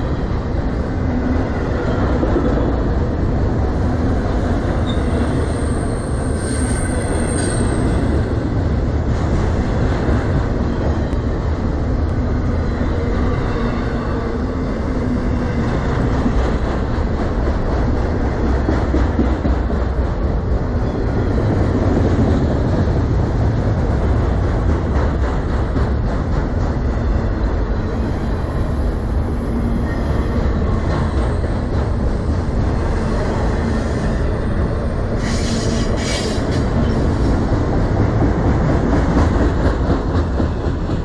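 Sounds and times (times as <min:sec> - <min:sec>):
freight train wheels rumbling on rails: 0:00.0 - 0:41.0.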